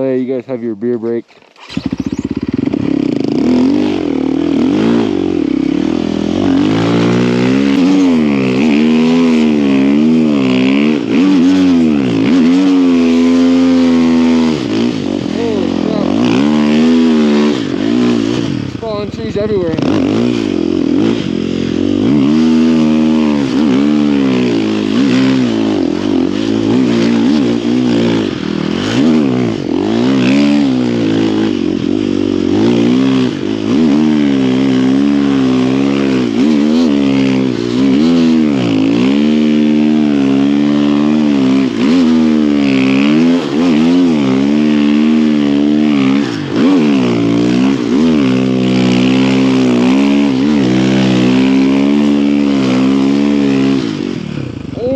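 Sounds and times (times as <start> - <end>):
snow bike engine revving: 0.0 - 54.9.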